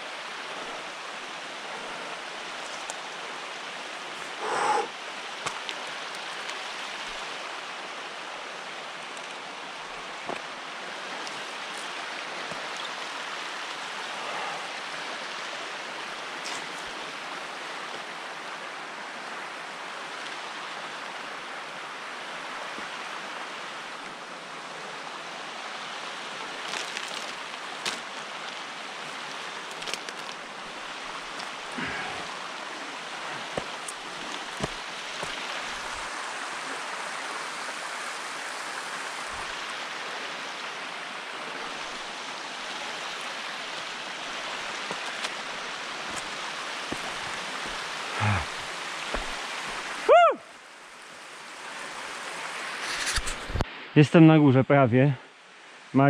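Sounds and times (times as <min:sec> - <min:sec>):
steady rushing hiss: 0:00.0 - 0:21.3, 0:24.6 - 0:56.0.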